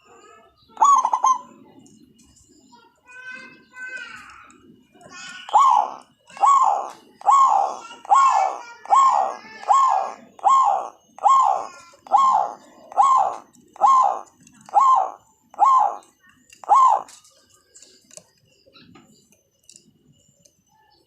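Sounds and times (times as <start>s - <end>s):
dove calling: 0.0s - 19.2s.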